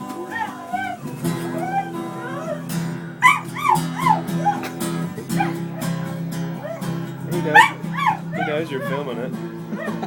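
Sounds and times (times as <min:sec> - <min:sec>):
dog howling: 0:00.0 - 0:10.0
strummed acoustic guitar: 0:00.0 - 0:10.0.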